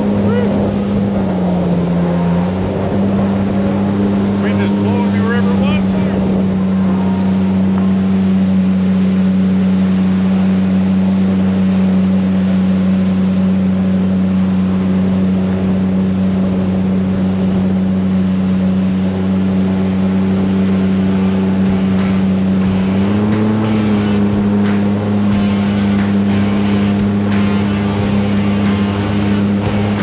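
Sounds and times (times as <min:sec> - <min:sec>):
outboard engine running: 0:00.0 - 0:30.0.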